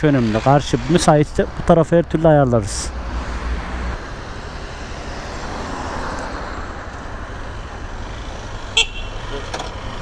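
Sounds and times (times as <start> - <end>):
traffic and road noise: 0.0 - 10.0.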